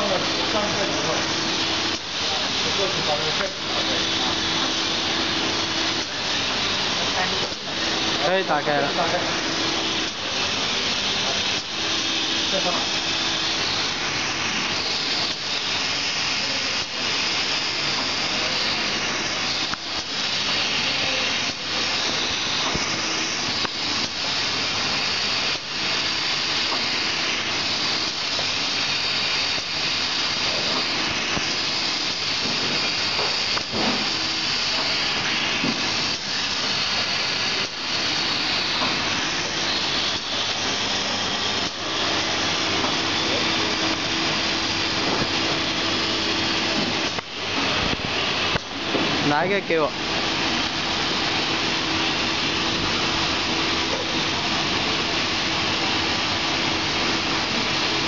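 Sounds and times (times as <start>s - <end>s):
hot-air blower hissing: 0.0s - 58.0s.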